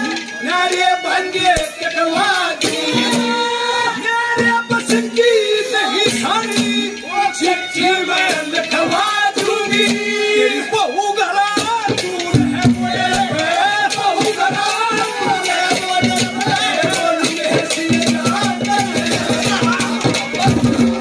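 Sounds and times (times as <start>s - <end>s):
drum beats: 0.0s - 21.0s
man singing: 0.0s - 21.0s.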